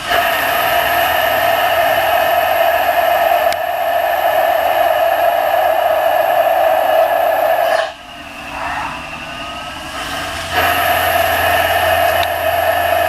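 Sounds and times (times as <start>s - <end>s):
lathe machining whir: 0.0s - 13.0s.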